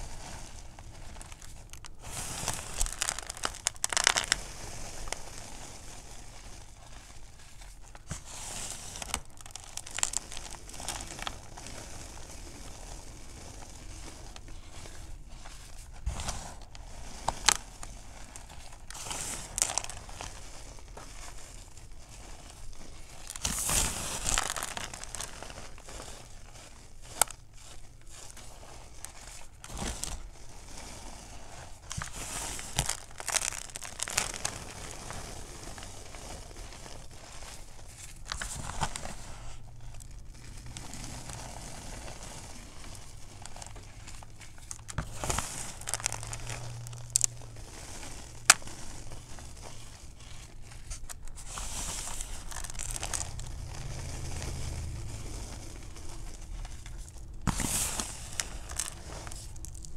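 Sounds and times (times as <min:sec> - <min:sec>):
fingers crumbling chalk: 0:00.0 - 0:59.9.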